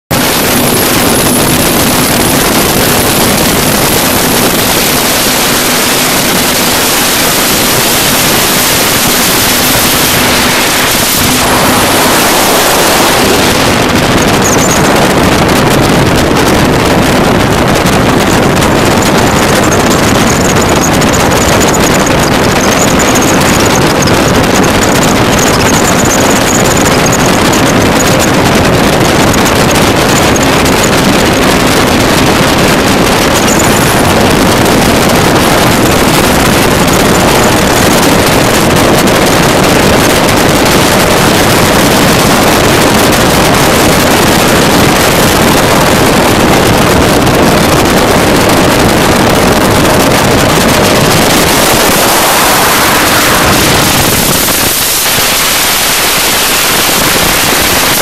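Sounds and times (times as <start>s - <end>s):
boat engine drone: 0.0s - 58.0s
rush of wind and water spray: 0.1s - 58.0s.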